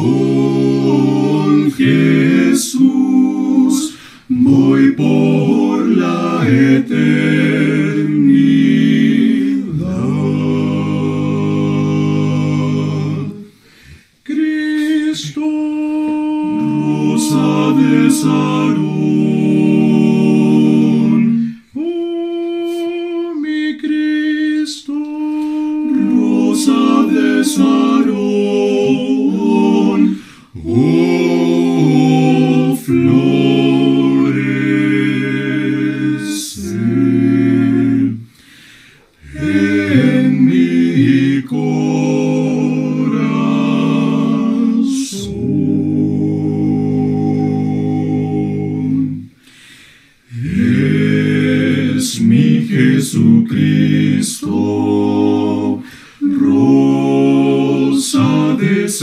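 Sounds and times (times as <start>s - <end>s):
male vocal quartet singing a hymn: 0.0s - 59.0s.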